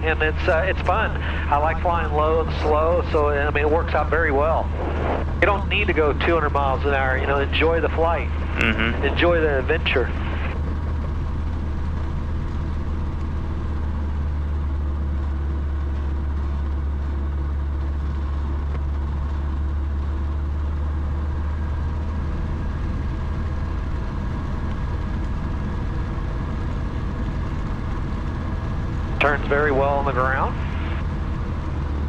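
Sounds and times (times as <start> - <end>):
light aircraft engine droning: 0.0 - 32.0.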